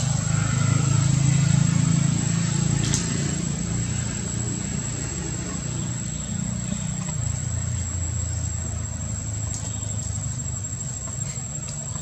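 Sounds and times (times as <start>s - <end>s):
idling engine hum: 0.0s - 12.0s.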